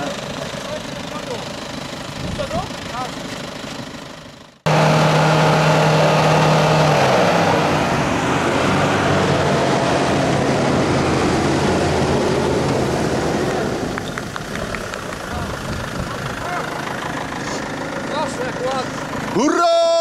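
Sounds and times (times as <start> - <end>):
van engine running hard: 0.0 - 20.0.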